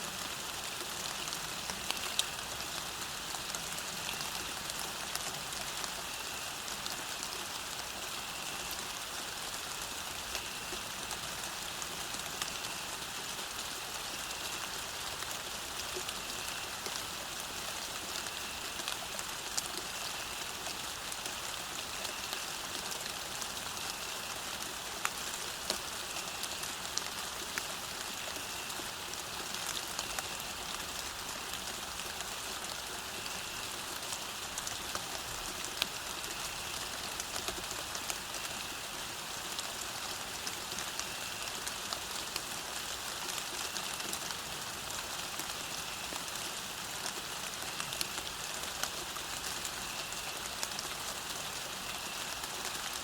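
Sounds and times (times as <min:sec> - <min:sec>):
rain falling on a road: 0:00.0 - 0:53.0.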